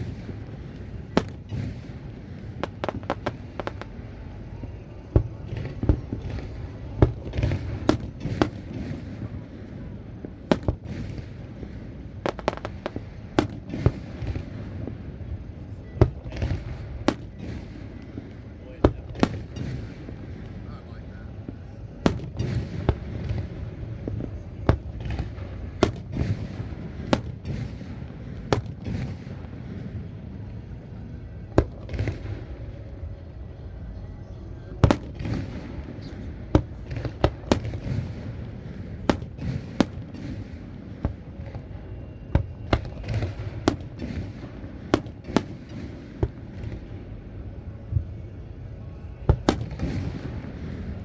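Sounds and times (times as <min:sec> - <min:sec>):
fireworks booming: 0:00.0 - 0:20.7, 0:21.4 - 0:30.5, 0:34.8 - 0:47.2, 0:49.3 - 0:51.0
continuous low rumble: 0:00.0 - 0:51.0.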